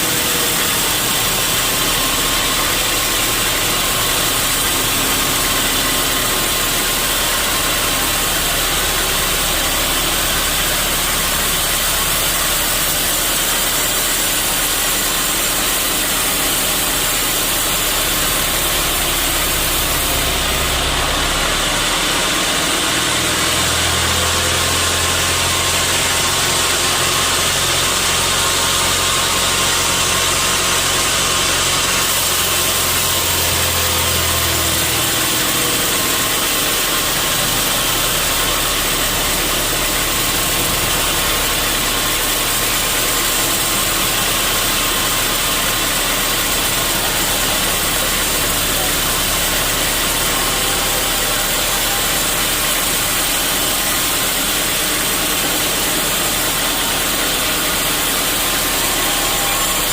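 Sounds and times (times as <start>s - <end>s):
deep machine hum: 0.0s - 59.9s
sawmill machinery running: 0.0s - 59.9s.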